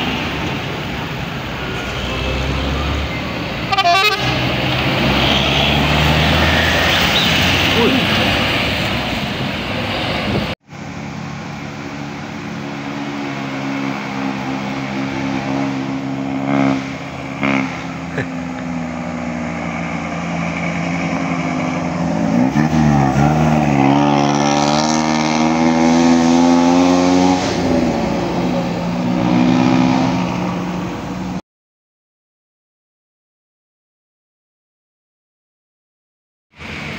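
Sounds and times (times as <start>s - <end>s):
heavy vehicle engine accelerating: 0.0s - 31.4s, 36.6s - 36.9s.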